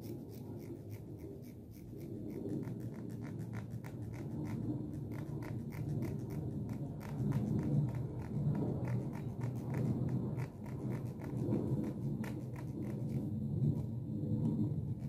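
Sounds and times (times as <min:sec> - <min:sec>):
comb scratching microphone: 0:00.0 - 0:15.0.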